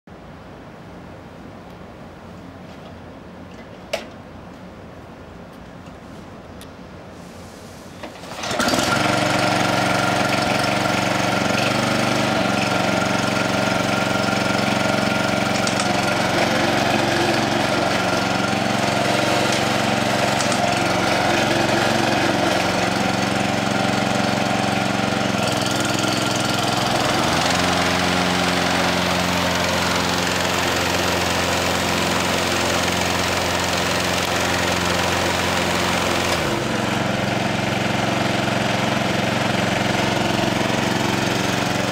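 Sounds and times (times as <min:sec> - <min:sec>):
small engine running: 0:08.2 - 0:41.9.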